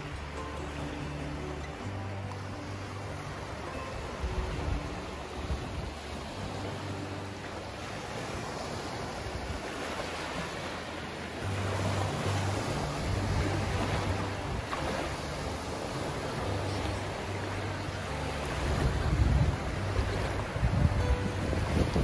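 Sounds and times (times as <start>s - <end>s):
surf washing onto shore: 0.0s - 22.0s
wind rumbling on microphone: 0.0s - 22.0s.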